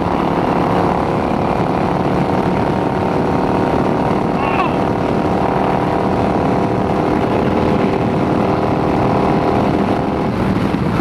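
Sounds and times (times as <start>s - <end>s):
heavy wind noise: 0.0s - 11.0s
motorcycle engine running: 0.0s - 11.0s.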